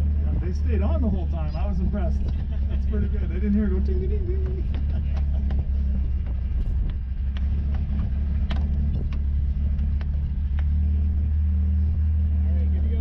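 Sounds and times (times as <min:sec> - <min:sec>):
car engine idling: 0:00.0 - 0:13.0
light sharp engine ticks: 0:00.0 - 0:13.0.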